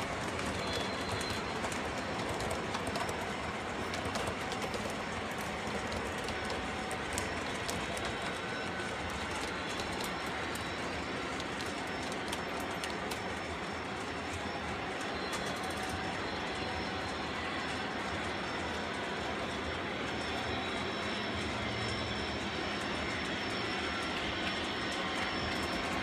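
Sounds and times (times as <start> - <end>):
model train wheels rumbling: 0.0 - 26.0.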